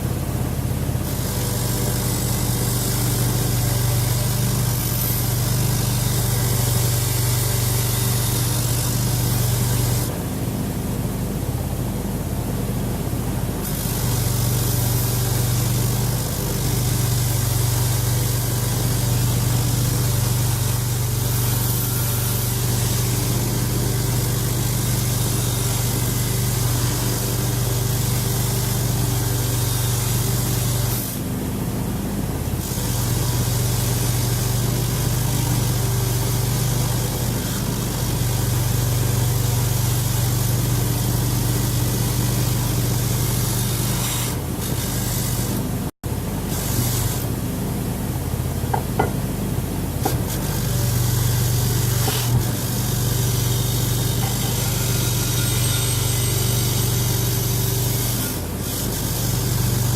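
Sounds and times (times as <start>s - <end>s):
grinder on metal: 1.0s - 10.2s, 13.6s - 31.4s, 32.5s - 47.4s, 48.7s - 49.1s, 50.0s - 59.9s.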